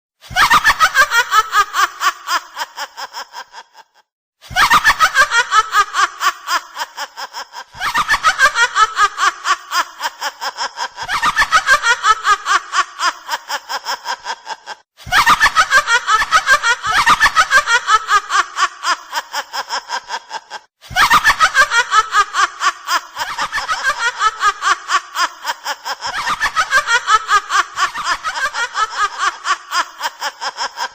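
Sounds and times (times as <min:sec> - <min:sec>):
woman cackling laughter: 0:00.3 - 0:30.9.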